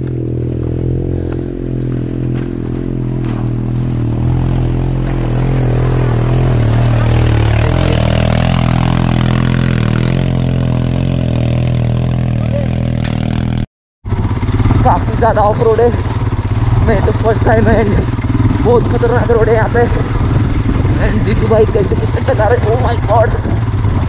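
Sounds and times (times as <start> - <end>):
atv engine: 0.0 - 24.0
motorcycle engine running: 0.0 - 24.0.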